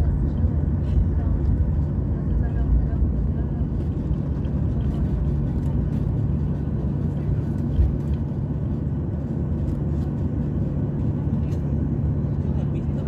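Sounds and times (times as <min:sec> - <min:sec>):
jet engine hum in cabin: 0:00.0 - 0:13.0.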